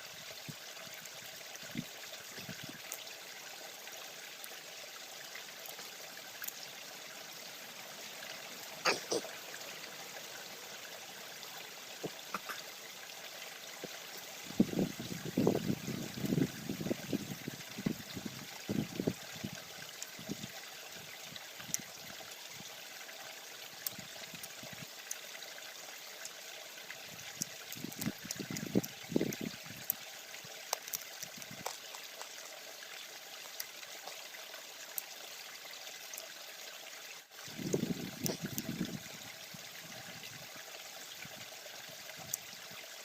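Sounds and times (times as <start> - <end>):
stream babbling over rocks: 0.0 - 43.0.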